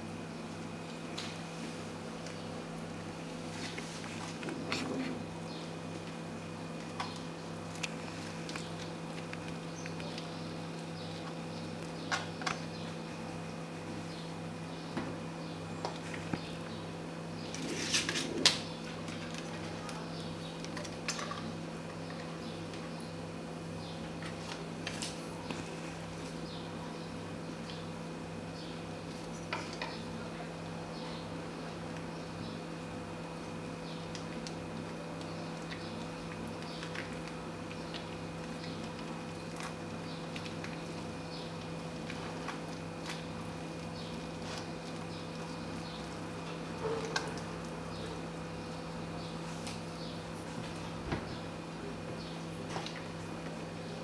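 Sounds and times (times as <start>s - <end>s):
low background hum: 0.0s - 54.0s.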